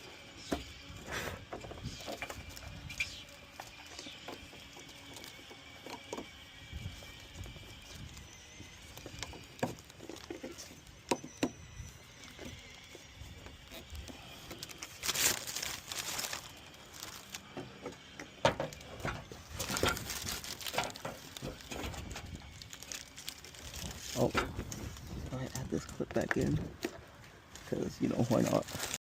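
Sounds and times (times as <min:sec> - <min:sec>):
scraping and rustling: 0:00.4 - 0:29.0.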